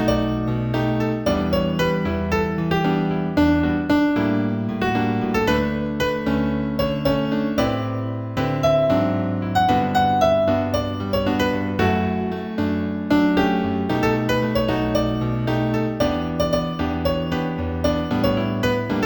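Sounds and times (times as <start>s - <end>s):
piano notes and chords: 0.0s - 19.0s.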